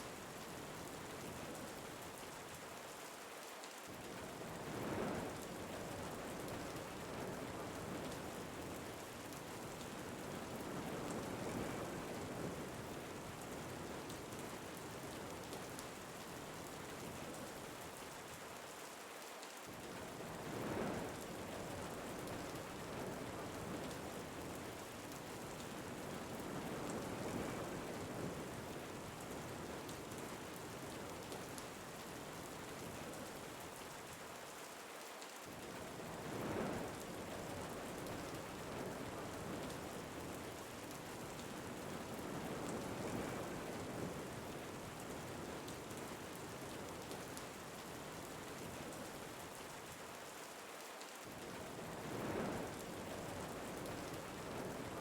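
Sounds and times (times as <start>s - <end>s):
rain falling with wind: 0.0s - 55.0s.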